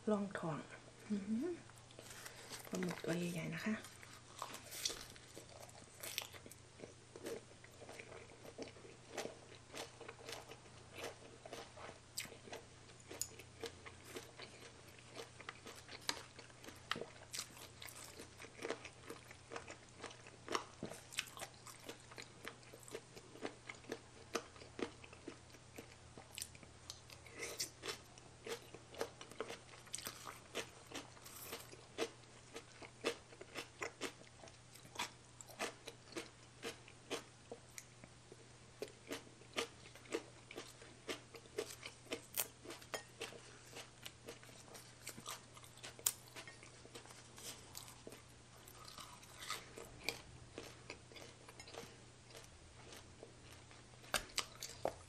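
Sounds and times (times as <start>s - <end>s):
crunchy bites and chewing: 3.9s - 37.3s, 38.8s - 55.0s.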